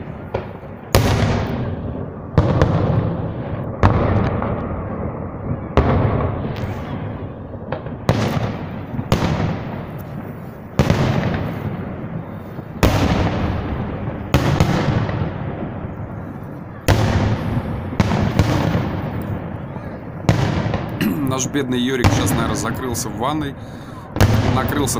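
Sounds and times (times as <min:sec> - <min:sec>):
fireworks booming with rolling echo: 0:00.0 - 0:24.9.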